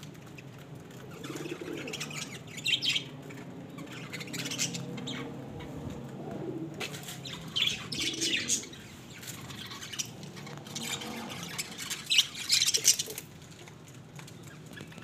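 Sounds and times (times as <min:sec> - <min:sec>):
small birds chirping and squawking: 0:00.0 - 0:15.0.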